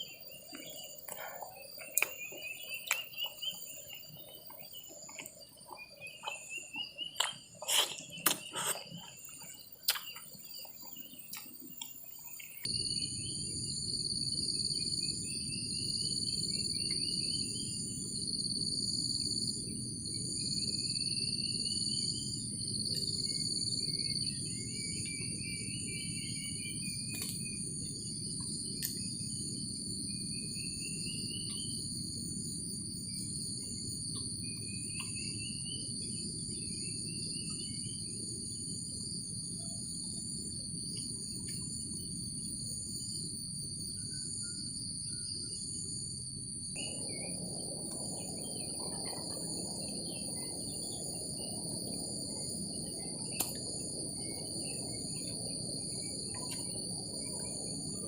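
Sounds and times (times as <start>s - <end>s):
crickets or cicadas shrilling: 0.0s - 58.0s.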